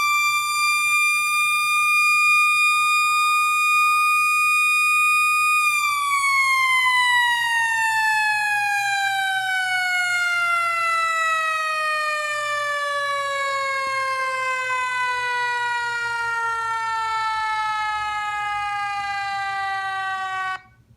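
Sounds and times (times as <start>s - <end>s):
mechanical siren winding down: 0.0s - 20.9s.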